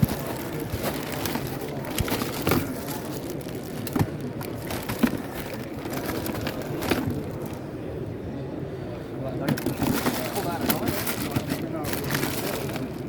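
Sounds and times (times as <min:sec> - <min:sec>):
clicks and knocks of handling: 0:00.0 - 0:07.6, 0:09.4 - 0:13.0
crowd chatter: 0:00.0 - 0:13.0.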